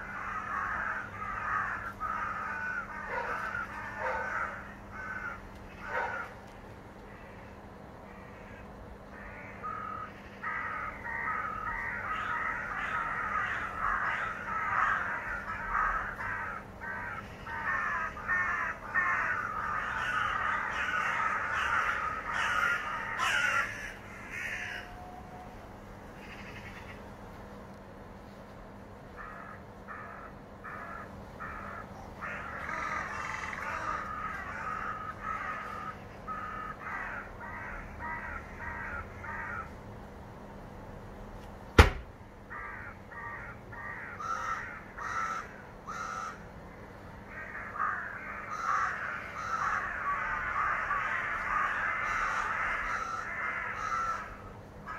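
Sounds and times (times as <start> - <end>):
crows cawing: 0.0 - 25.2, 26.0 - 27.1, 29.1 - 39.8, 42.5 - 54.9.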